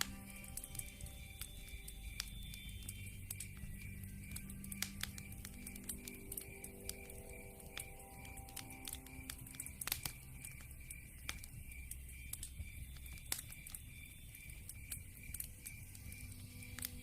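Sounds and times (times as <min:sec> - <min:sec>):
sharp pops and snaps: 0:00.0 - 0:17.0
wood fire crackling: 0:00.0 - 0:17.0.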